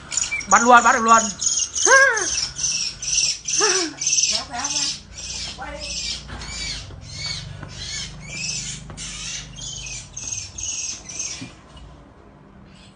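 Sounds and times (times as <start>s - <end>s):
bird distress squawks: 0.0s - 11.6s.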